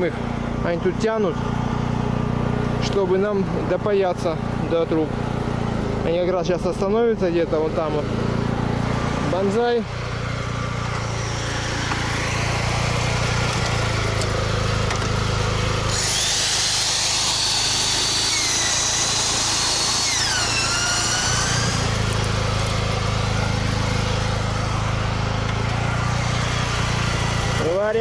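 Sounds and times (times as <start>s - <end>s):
electric power tool whining: 0.0s - 28.0s
petrol generator droning: 0.0s - 28.0s.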